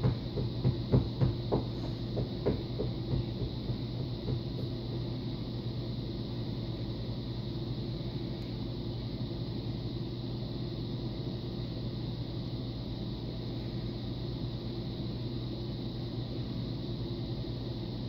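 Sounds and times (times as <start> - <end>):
low hum with faint hiss: 0.0 - 18.0.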